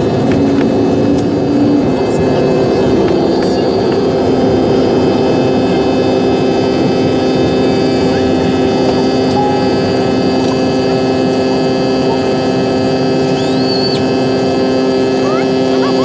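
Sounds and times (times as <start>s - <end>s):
jet engine and airflow rush: 0.0s - 16.0s
steady humming tones: 0.0s - 16.0s.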